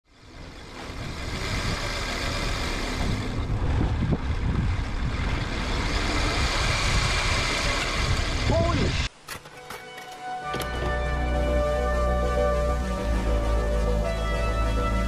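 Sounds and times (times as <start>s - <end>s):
boat engine running: 0.1s - 8.6s, 10.6s - 15.0s
rush of wind and water: 0.1s - 9.2s, 10.9s - 15.0s.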